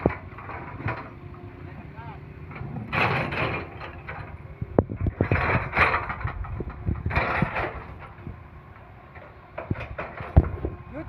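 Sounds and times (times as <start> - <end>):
metallic clanks and knocks: 0.0 - 10.8
low engine rumble: 0.0 - 11.0.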